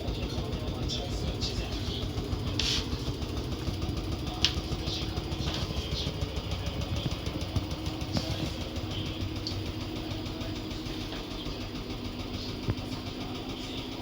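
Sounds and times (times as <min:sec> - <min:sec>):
washing machine running: 0:00.0 - 0:14.0.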